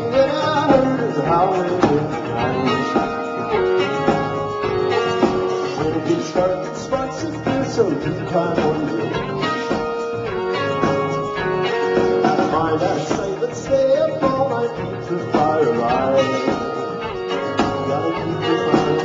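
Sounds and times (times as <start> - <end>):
live band playing instrumental: 0.0 - 19.0.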